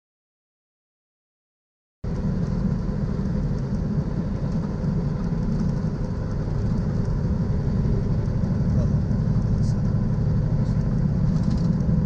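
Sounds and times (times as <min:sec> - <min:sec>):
road noise: 0:02.0 - 0:12.0
truck engine drone: 0:02.0 - 0:12.0.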